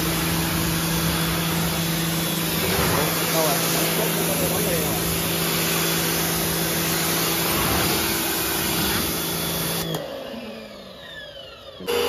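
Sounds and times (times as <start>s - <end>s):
water spray hissing: 0.0s - 9.8s
motor winding down whine: 0.0s - 12.0s
pressure washer motor hum: 0.0s - 12.0s.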